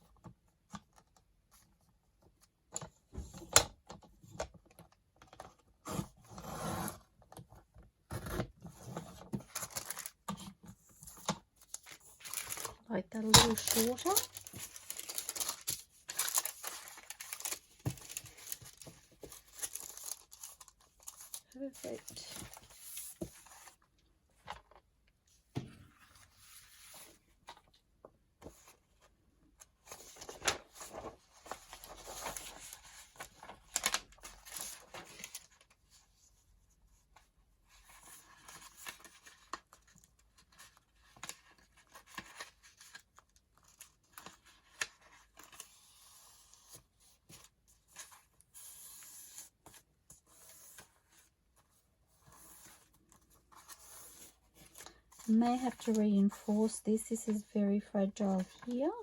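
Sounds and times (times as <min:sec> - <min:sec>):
paper rustling and crinkling: 0:08.6 - 0:36.3, 0:37.2 - 0:59.0.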